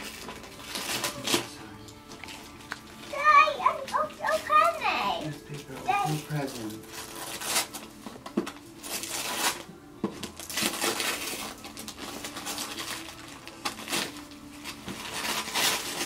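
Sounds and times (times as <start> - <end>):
wrapping paper tearing and crinkling: 0.0 - 16.0.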